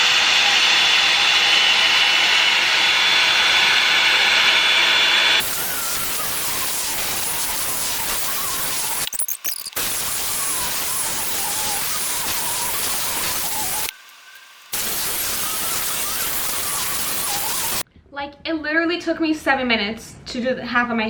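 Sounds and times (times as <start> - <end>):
hot-air brush dryer blowing: 0.0 - 9.1, 9.7 - 17.8.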